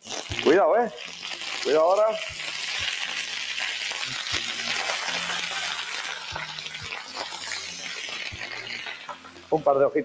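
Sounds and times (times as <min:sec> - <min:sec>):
lettuce sizzling in hot oil: 0:00.0 - 0:10.0.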